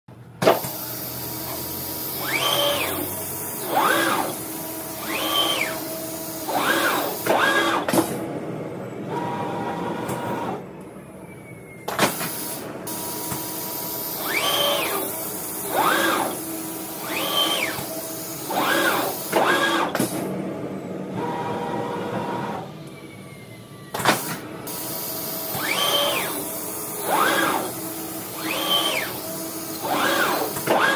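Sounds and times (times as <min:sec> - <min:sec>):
drive motors whining in sweeps: 0:00.6 - 0:30.9.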